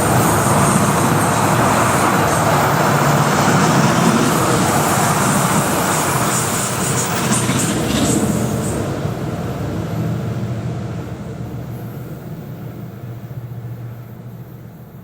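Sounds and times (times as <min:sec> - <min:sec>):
train passing with wheel noise: 0:00.0 - 0:15.0.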